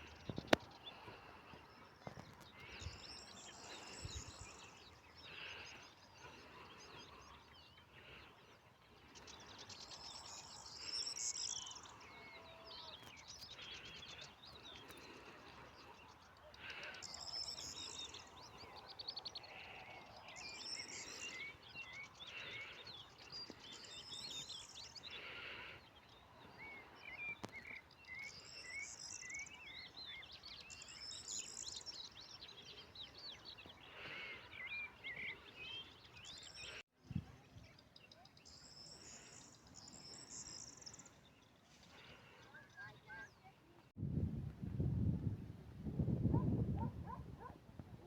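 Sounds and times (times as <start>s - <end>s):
songbirds singing and chirping: 0.0s - 44.0s, 45.4s - 48.0s.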